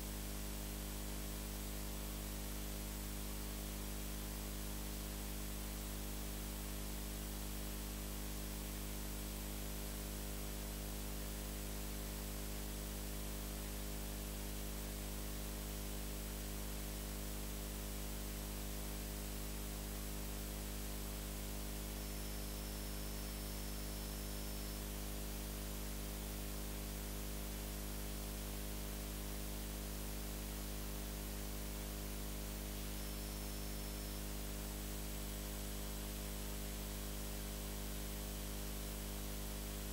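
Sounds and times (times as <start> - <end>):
constant background hiss: 0.0 - 39.9
low mains hum: 0.0 - 39.9.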